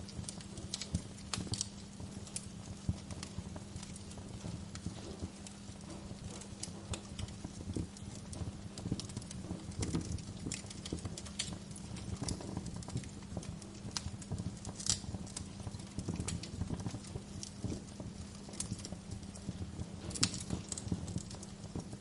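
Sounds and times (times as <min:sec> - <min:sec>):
low steady rumble: 0:00.0 - 0:22.0
wood fire crackling: 0:00.0 - 0:22.0.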